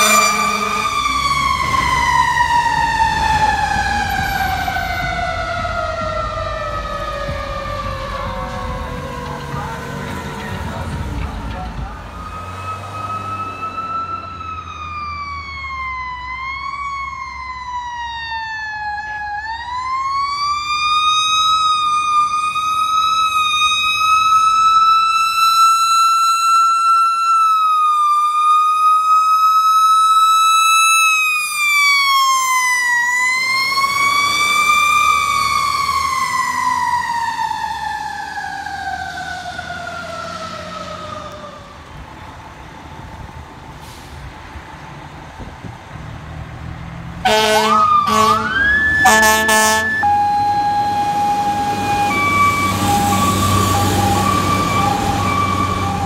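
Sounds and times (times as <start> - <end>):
fire engine siren wailing: 0.0 - 56.0.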